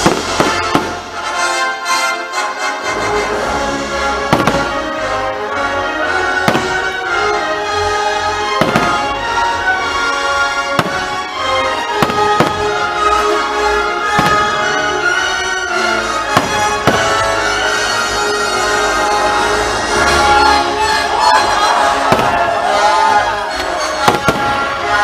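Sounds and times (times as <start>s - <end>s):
fireworks bursting: 0.0s - 1.7s, 3.3s - 5.4s, 6.0s - 25.0s
brass-led show music: 0.0s - 25.0s.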